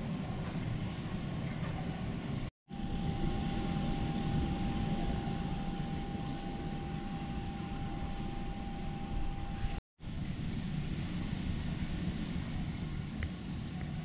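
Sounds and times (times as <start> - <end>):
low rumbling room noise: 0.0 - 14.0
steady high hum: 0.0 - 14.0.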